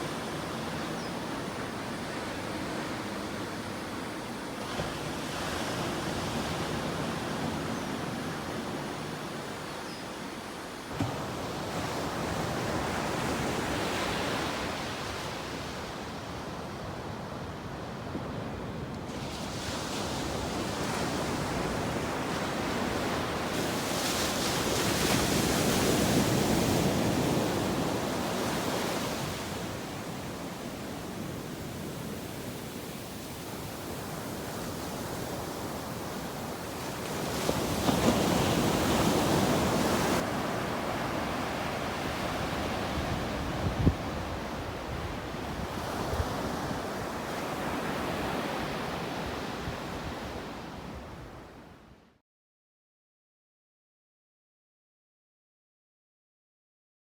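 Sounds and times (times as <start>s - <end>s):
ocean waves washing on shore: 0.0s - 51.9s.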